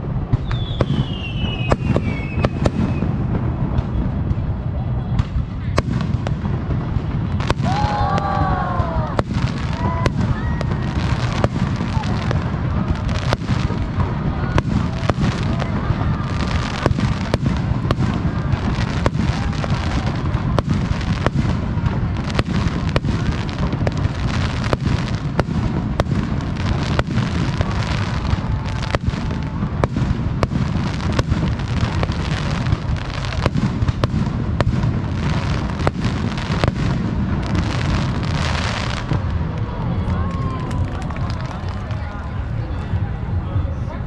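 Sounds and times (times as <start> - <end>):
sharp firework cracks: 0.0 - 42.2.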